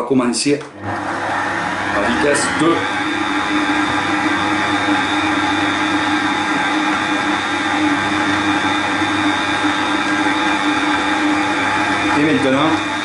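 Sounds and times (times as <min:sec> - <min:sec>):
stand mixer motor humming: 0:00.7 - 0:13.0.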